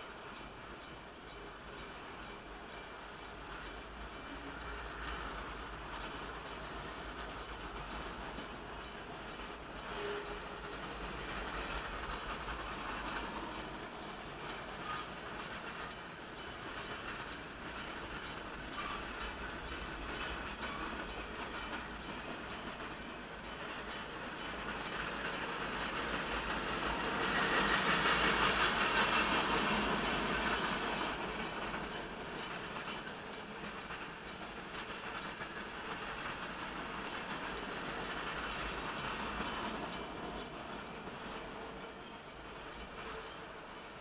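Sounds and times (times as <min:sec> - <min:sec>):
freight train wheels clattering: 0:00.0 - 0:44.0.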